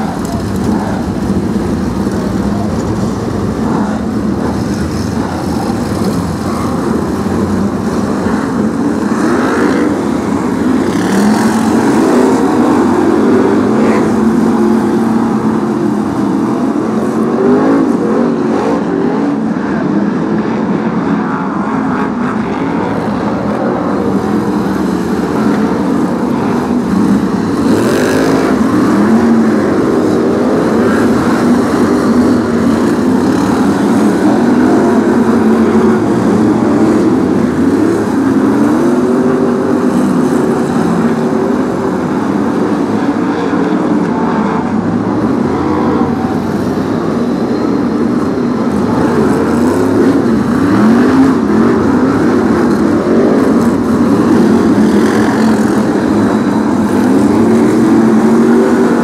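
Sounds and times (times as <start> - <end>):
racing car engines at full throttle: 0.0 - 59.0.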